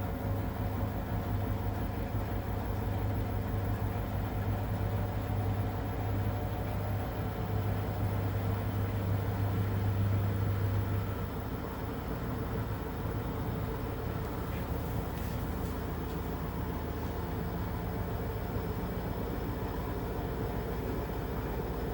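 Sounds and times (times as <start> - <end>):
washing machine motor hum: 0.6 - 21.9.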